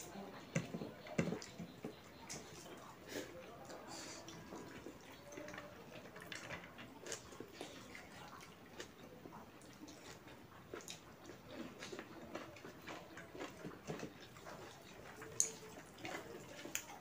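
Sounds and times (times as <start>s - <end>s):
person chewing food: 0.6s - 17.0s.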